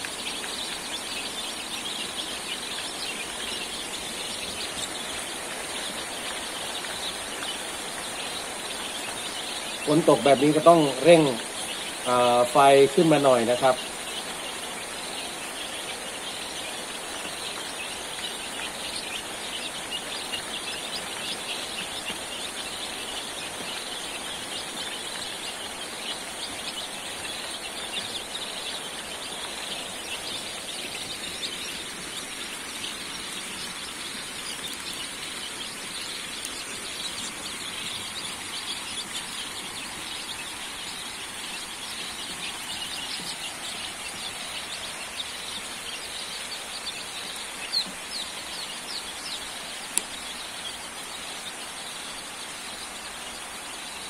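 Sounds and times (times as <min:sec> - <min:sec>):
background hiss: 0:00.0 - 0:54.0
chicks peeping: 0:00.0 - 0:54.0.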